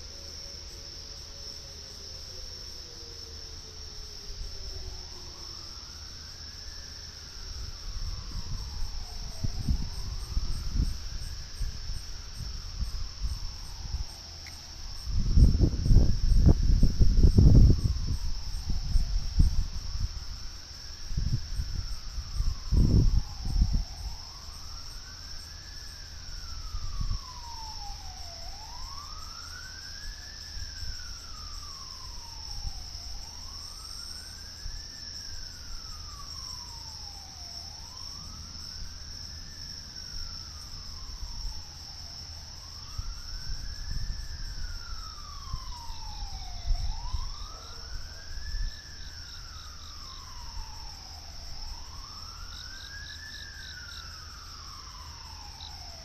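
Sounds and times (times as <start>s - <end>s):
crickets chirping: 0.0s - 56.0s
tornado warning siren wailing: 0.0s - 56.0s.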